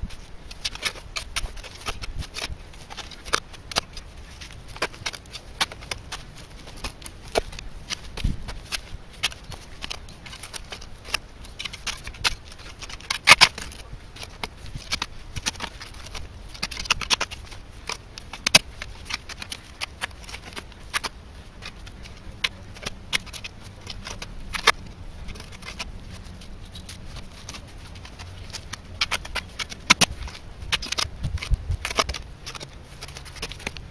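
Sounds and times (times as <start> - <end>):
soil clods dropping: 0.0 - 33.9.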